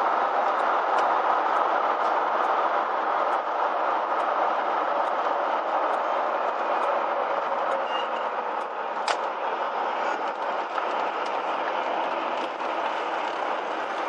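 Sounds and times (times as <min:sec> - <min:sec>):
engine and road noise: 0:00.0 - 0:14.0.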